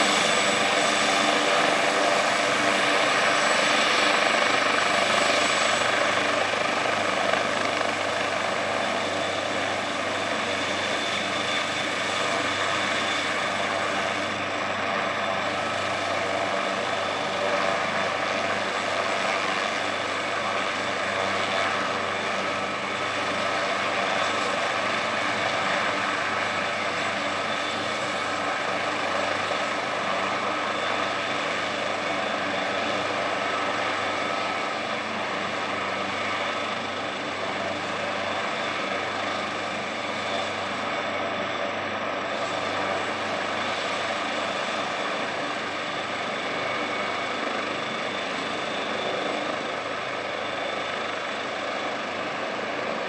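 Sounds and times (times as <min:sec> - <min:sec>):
helicopter rotor noise: 0:00.0 - 0:53.0
turbine engine whine: 0:00.0 - 0:53.0.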